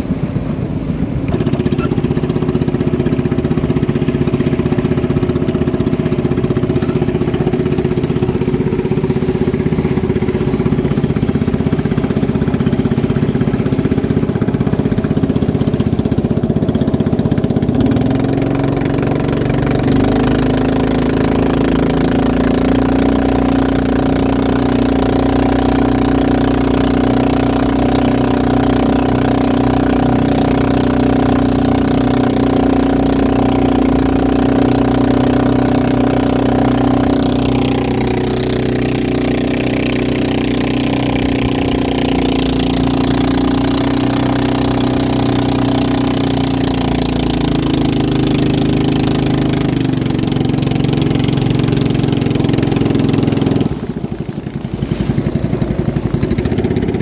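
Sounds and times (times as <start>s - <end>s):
motorboat engines running: 0.0s - 57.0s.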